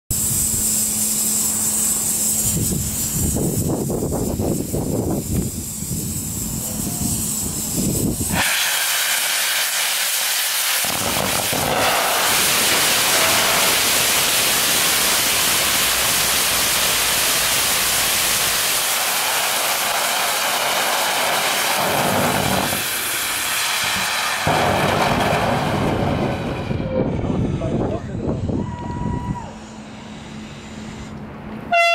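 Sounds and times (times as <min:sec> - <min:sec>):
rocket motor rushing hiss: 0:00.1 - 0:27.8.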